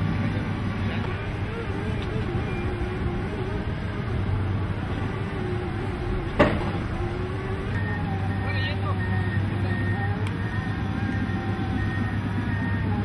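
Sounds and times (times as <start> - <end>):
diesel construction machinery droning: 0.0 - 13.0.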